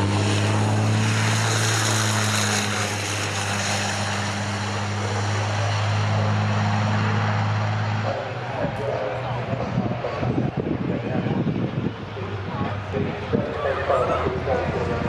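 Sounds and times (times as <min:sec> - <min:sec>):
diesel truck engines droning: 0:00.0 - 0:15.0.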